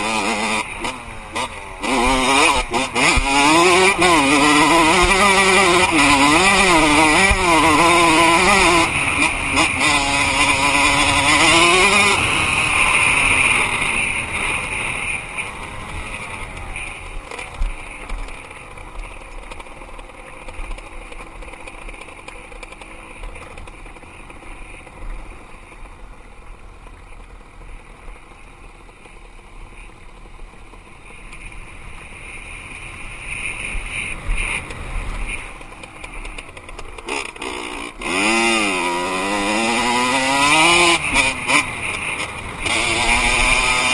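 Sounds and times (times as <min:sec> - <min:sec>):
dirt bike engine revving: 0:00.0 - 0:26.6, 0:28.1 - 0:43.9.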